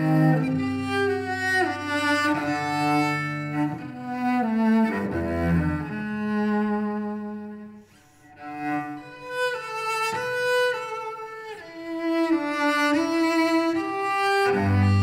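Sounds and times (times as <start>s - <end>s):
cello bowing a melody: 0.0s - 15.0s.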